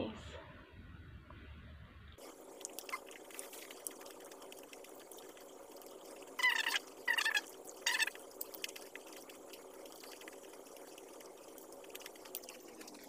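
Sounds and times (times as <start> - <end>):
eating by hand with chewing: 2.2 - 13.0.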